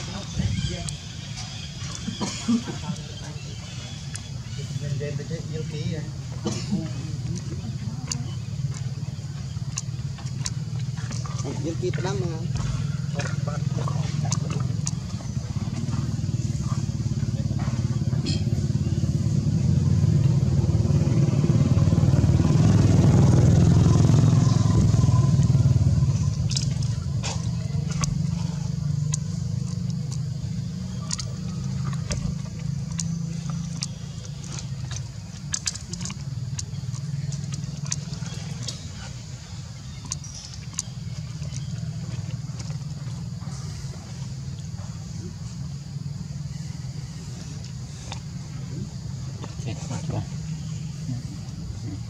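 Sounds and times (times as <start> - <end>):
motor engine humming: 0.0 - 52.0.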